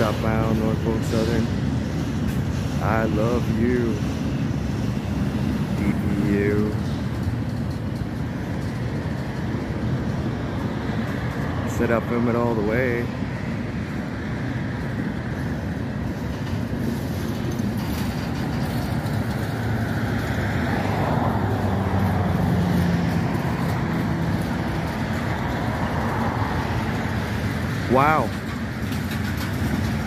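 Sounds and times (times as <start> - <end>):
diesel locomotive engine hum: 0.0 - 30.0
train wheels rumbling on rail: 0.0 - 30.0.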